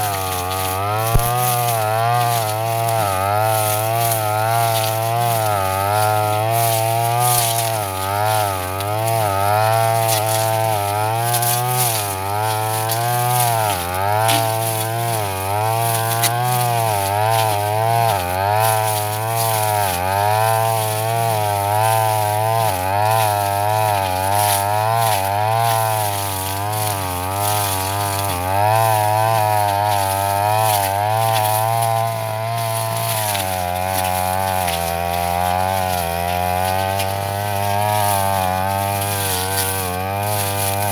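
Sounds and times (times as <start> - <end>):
brush cutter cutting grass: 0.0 - 40.9.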